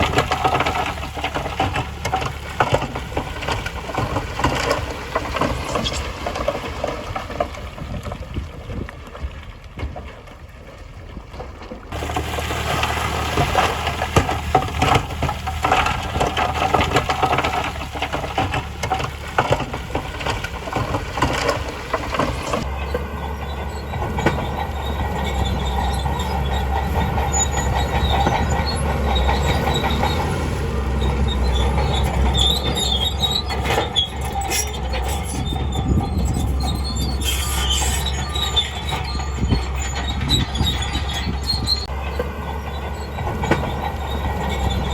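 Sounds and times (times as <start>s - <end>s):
steel tracks clanking and squealing: 0.0s - 7.7s, 11.9s - 44.9s
diesel engine running: 0.0s - 7.9s, 11.9s - 44.9s.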